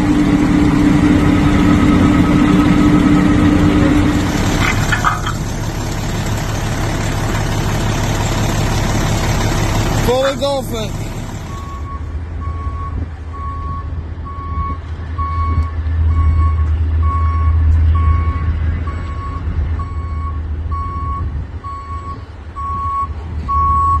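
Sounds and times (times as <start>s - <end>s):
low rumble: 0.0s - 22.8s
truck reversing alarm beeping: 0.0s - 24.0s.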